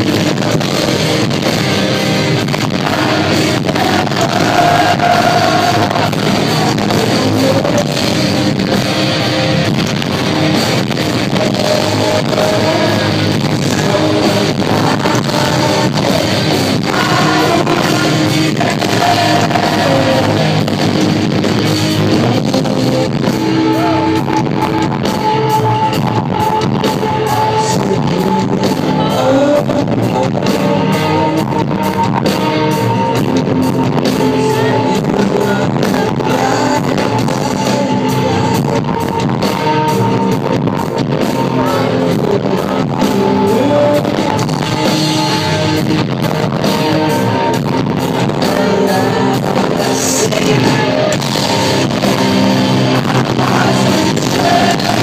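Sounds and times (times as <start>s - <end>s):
man singing: 0.0s - 1.6s, 2.4s - 8.8s, 10.6s - 21.4s, 22.0s - 24.7s, 26.8s - 31.8s, 34.0s - 39.4s, 41.1s - 55.0s
distorted electric guitar: 0.0s - 55.0s
drum kit: 0.0s - 55.0s.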